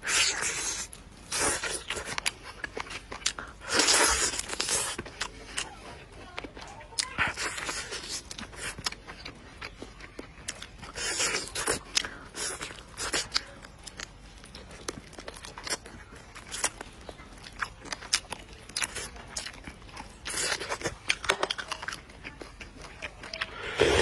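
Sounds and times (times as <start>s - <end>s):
meat being torn and bitten: 0.0s - 5.8s, 7.0s - 24.0s
wet chewing and lip-smacking: 0.0s - 24.0s.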